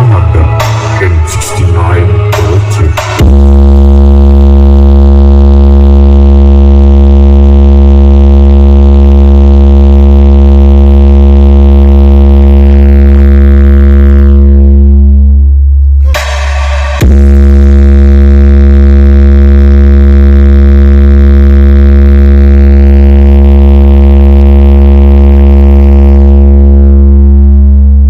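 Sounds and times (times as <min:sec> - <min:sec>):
deep bass drone from sound system: 0:00.0 - 0:28.0.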